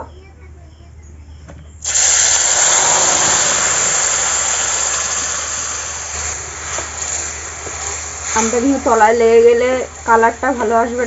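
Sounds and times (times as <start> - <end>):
pulp sizzling in hot oil: 1.8 - 11.0.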